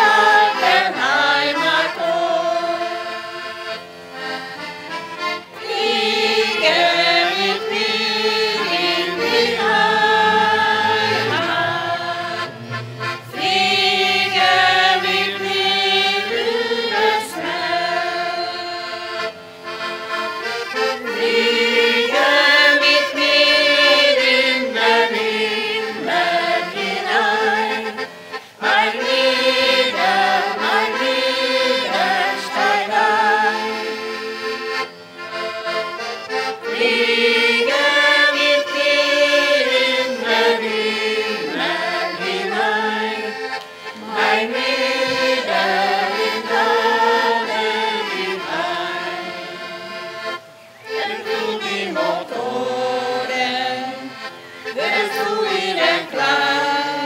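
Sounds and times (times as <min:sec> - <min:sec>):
accordion playing folk tune: 0:00.0 - 0:57.0.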